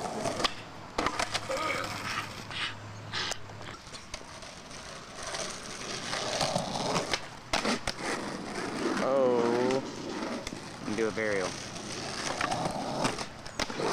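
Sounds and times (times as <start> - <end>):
skateboard clacking on ground: 0.0 - 13.9
skateboard wheels rolling on concrete: 0.0 - 13.9.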